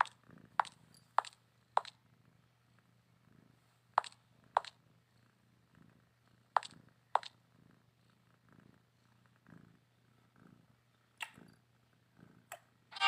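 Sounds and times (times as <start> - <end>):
cat purring softly: 0.0 - 12.9.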